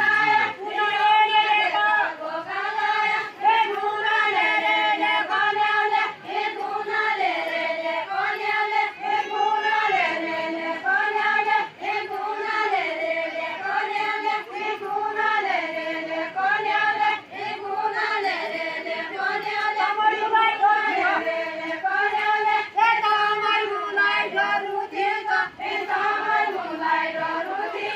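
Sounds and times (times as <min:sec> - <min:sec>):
group singing in unison: 0:00.0 - 0:27.9.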